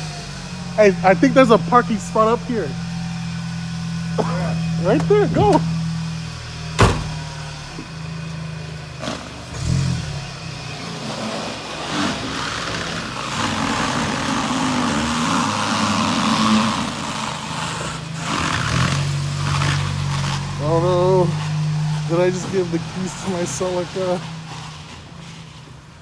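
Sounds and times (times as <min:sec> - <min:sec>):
car engine running: 0:00.0 - 0:25.8
road noise: 0:00.0 - 0:26.0.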